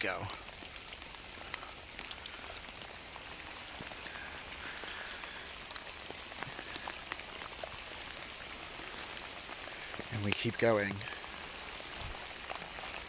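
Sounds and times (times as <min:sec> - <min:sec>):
single raindrops ticking: 0:00.0 - 0:13.0
small stream trickling: 0:00.0 - 0:13.0
steady rain falling: 0:00.0 - 0:13.0.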